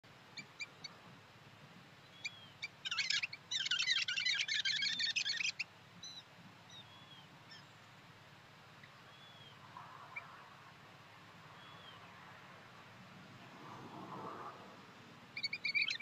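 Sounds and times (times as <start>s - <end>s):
songbirds chirping and twittering: 0.0s - 16.0s.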